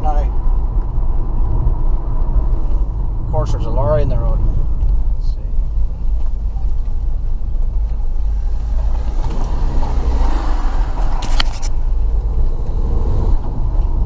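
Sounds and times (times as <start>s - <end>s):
car engine: 0.0s - 14.0s
road noise inside car: 0.0s - 14.0s.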